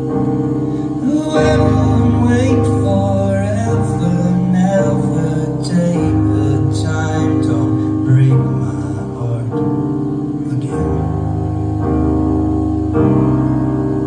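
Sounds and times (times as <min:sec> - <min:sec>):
sustained keyboard chords: 0:00.0 - 0:14.0.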